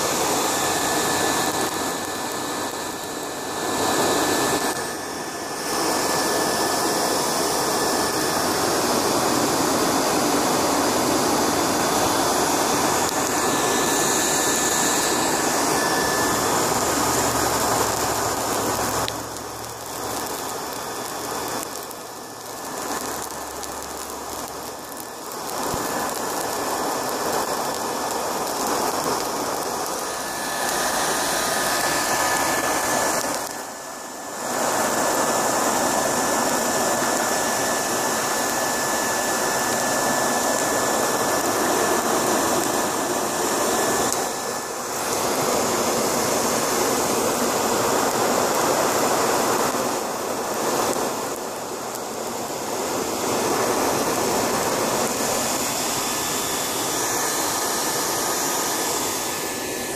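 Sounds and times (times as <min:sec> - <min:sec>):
faint steady whine: 0:00.0 - 0:59.9
forge fire roaring: 0:00.0 - 0:59.9.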